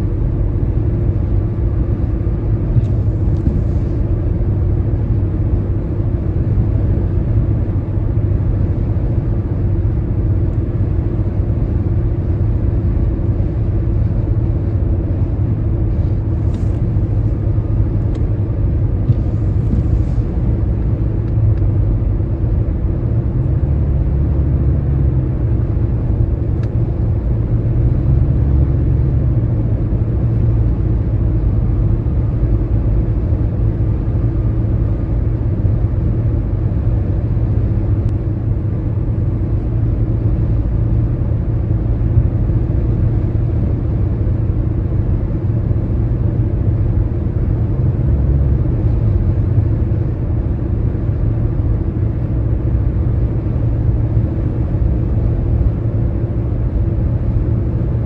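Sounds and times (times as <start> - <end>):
road and tyre rumble: 0.0 - 58.0.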